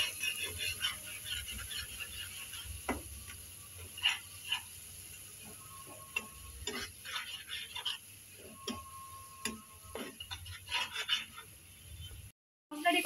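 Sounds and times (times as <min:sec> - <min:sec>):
metal spatula scraping a pan: 0:00.0 - 0:12.2
thick sauce frying: 0:00.0 - 0:13.0.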